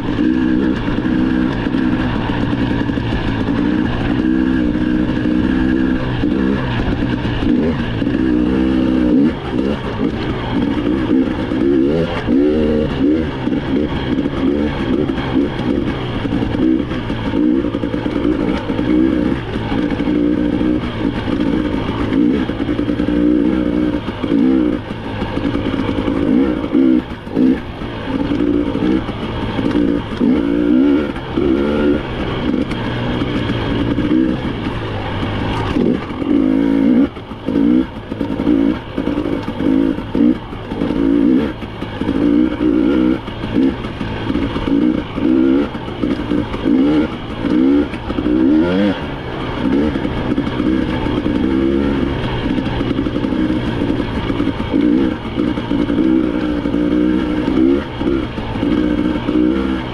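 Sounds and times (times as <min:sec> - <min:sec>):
clatter: 0:00.0 - 0:59.9
off-road vehicle engine revving: 0:00.0 - 0:59.9.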